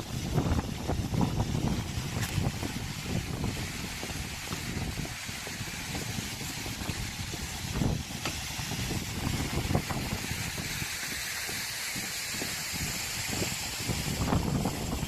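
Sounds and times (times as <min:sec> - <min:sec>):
outdoor hiss: 0:00.0 - 0:15.0
wind rumbling on microphone: 0:00.0 - 0:15.0.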